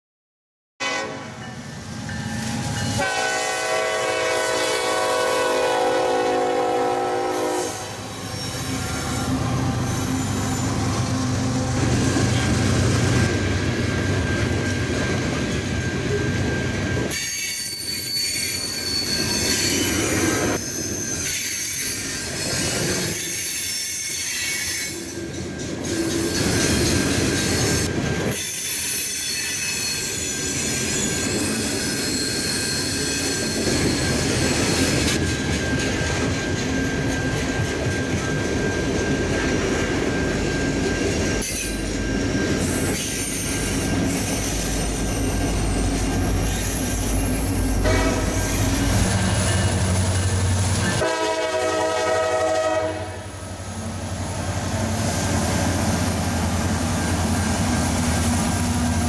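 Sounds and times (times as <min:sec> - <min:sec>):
diesel locomotive passing: 0:00.8 - 0:59.0
train wheels squealing: 0:01.6 - 0:03.2, 0:07.2 - 0:51.4, 0:53.6 - 0:59.0.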